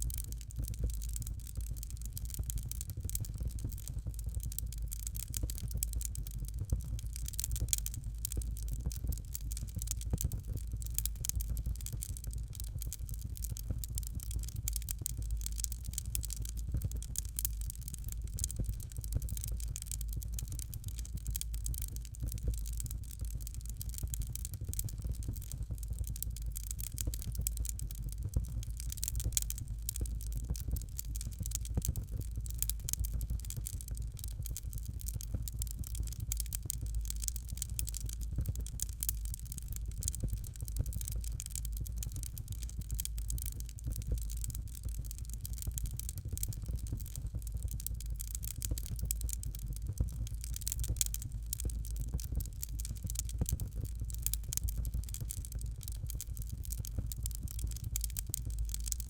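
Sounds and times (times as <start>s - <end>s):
fire crackling: 0.0s - 59.0s.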